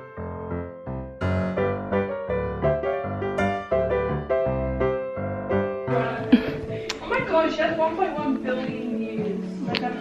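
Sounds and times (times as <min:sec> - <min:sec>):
background piano music: 0:00.0 - 0:10.0.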